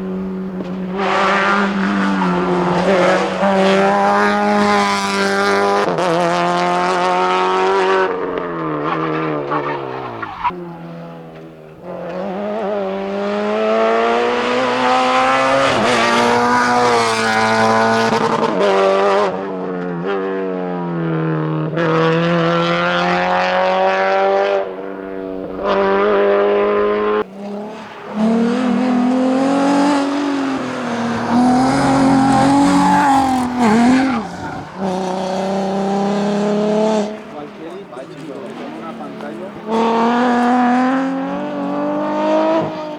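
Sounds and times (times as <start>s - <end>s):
car engine at high revs: 0.0s - 42.9s
rally car engine revving hard: 0.0s - 42.9s.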